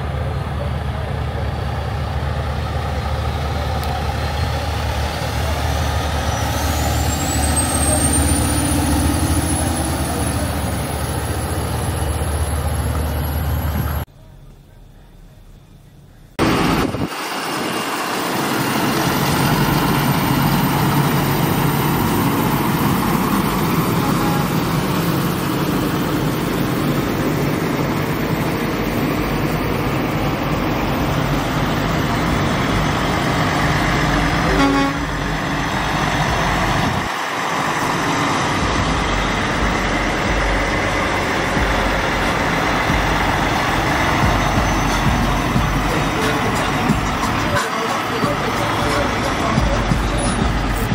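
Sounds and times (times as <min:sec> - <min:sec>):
diesel trucks driving past: 0:00.0 - 0:50.9
tyre noise on road: 0:00.0 - 0:50.9.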